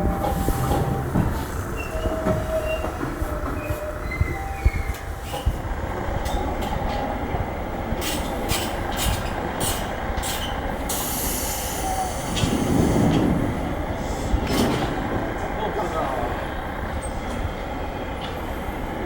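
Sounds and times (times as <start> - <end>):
wheels clicking over rail joints: 0.0 - 11.1, 14.3 - 19.0
electric train rumbling: 0.0 - 19.0.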